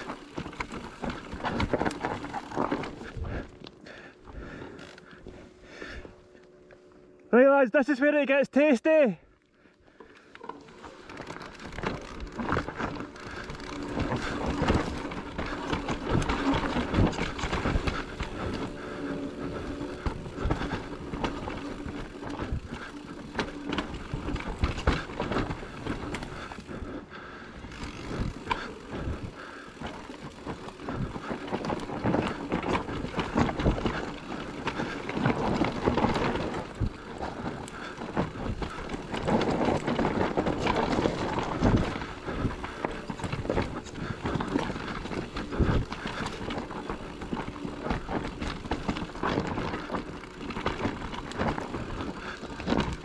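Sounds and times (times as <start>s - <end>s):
tyres rolling and skidding on dirt: 0.0s - 3.8s, 10.4s - 53.0s
bike frame rattling over bumps: 0.0s - 6.2s, 9.8s - 53.0s.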